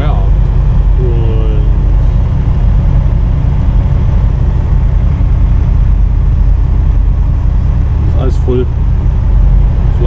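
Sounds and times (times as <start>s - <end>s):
road noise: 0.0s - 10.0s
truck diesel engine rumble: 0.0s - 10.0s.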